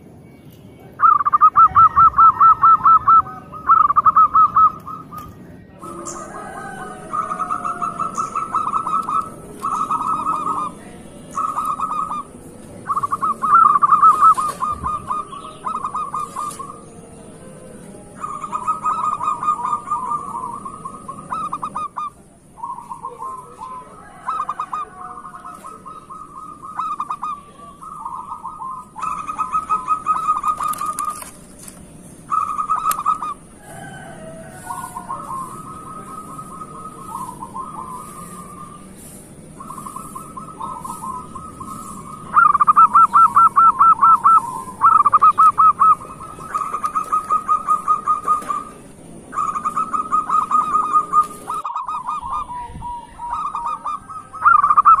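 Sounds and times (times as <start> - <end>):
dove cooing: 0.9 - 55.0.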